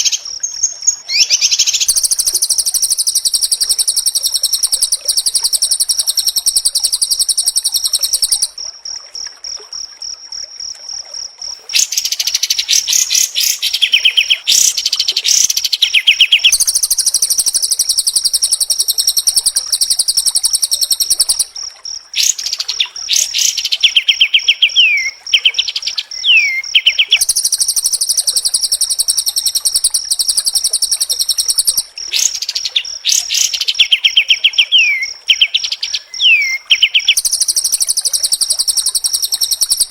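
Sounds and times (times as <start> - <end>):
bird song with high trills: 0.0 - 8.5, 11.8 - 21.5, 22.2 - 39.9.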